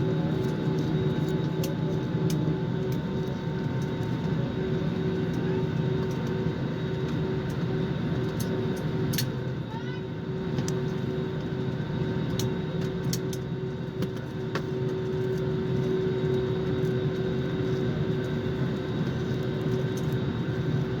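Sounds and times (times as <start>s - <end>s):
constant hum: 0.0s - 21.0s.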